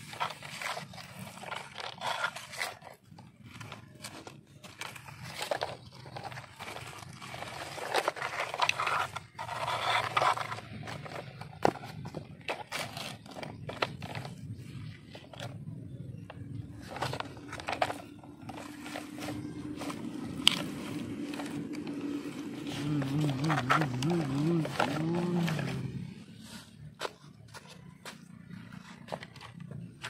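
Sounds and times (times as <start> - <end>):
toy loader scraping through dirt: 0.0 - 30.0.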